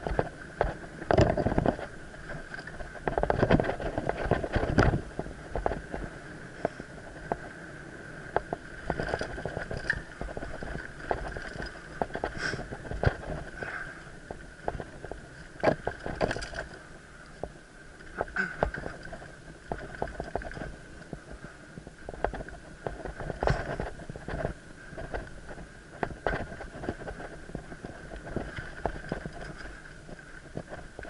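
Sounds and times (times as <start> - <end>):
mountain bike rattling on trail: 0.0 - 31.0.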